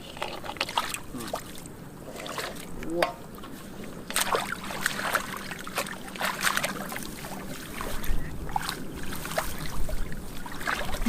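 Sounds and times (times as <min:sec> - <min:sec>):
splashing in muddy water: 0:00.0 - 0:11.0.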